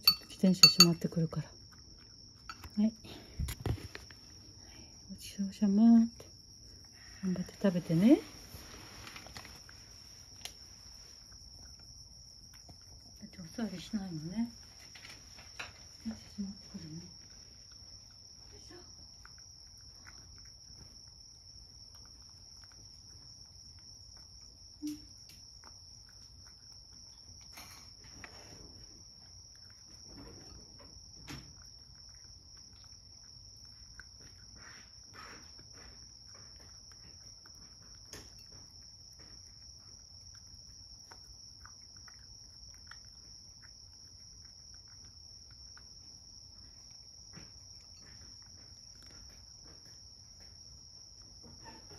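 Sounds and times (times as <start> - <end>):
cat chewing: 1.5 - 5.0, 6.3 - 7.3, 8.4 - 13.7, 14.5 - 51.5.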